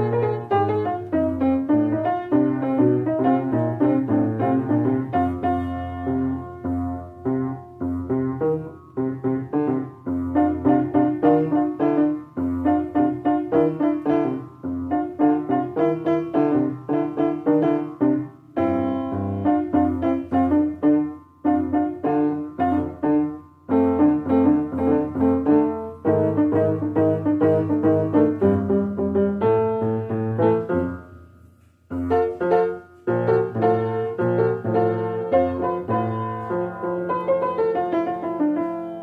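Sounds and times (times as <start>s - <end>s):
piano music: 0.0s - 39.0s.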